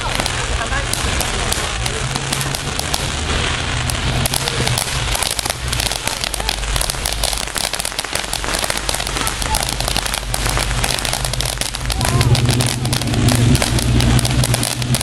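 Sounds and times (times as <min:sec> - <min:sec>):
firework fountain hissing and crackling: 0:00.0 - 0:15.0.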